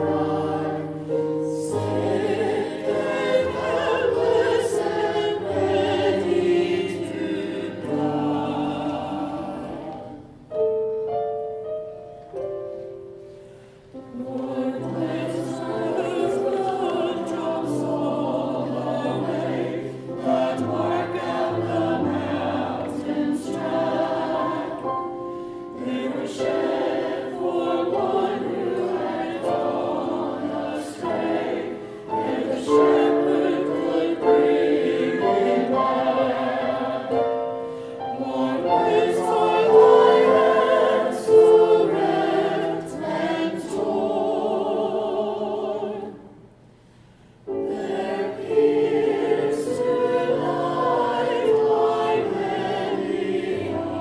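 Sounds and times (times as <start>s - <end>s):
choir singing with accompaniment: 0.0s - 54.0s.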